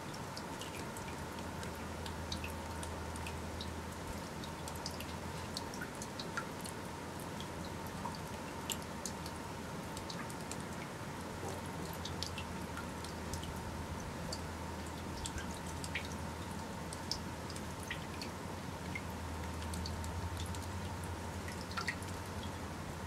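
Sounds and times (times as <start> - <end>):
water dripping: 0.0 - 23.0.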